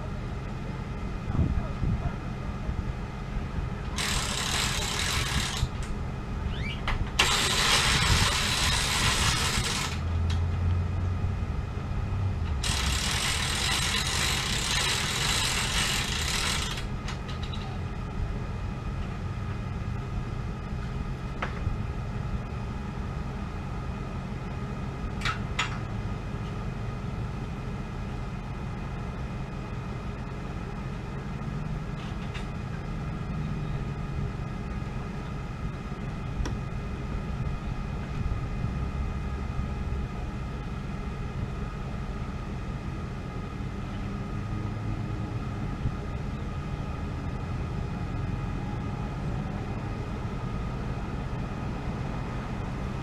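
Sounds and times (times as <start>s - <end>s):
low engine rumble: 0.0s - 53.0s.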